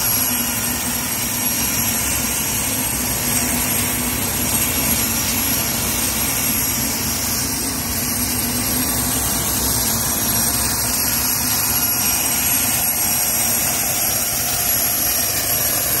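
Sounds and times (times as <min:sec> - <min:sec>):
high turbine whine: 0:00.0 - 0:16.0.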